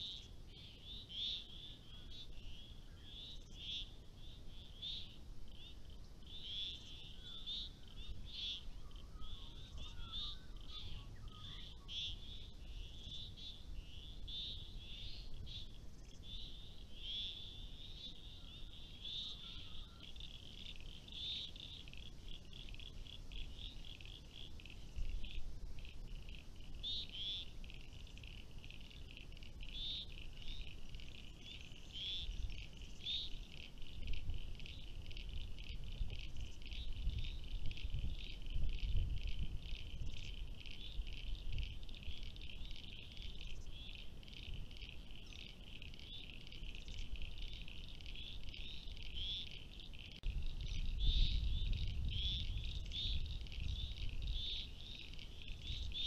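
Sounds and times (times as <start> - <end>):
frogs chirping: 0.0 - 56.0.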